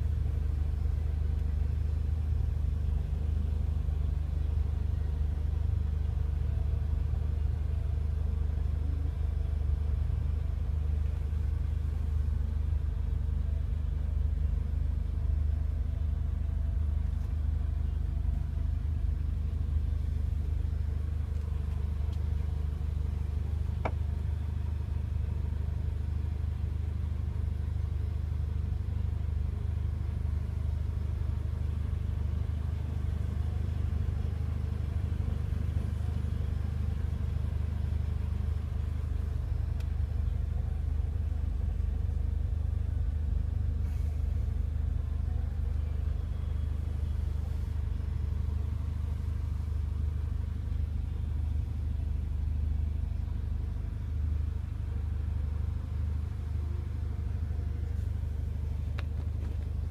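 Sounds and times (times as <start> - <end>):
car cabin rumble and hum: 0.0 - 59.9.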